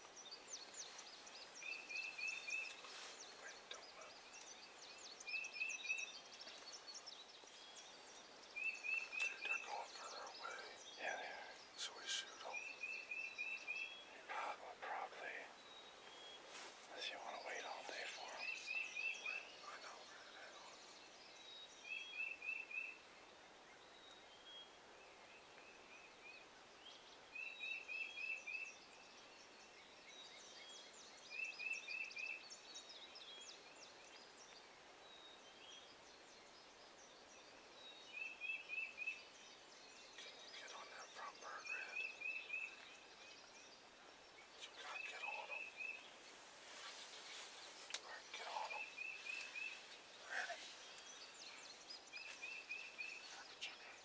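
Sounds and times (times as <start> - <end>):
faint bird calls: 0.0 - 26.5, 30.6 - 54.0.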